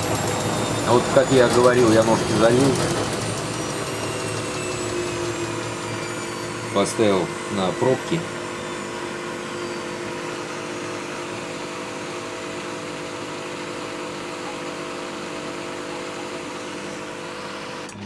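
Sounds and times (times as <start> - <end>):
washing machine humming and whirring: 0.0 - 18.0.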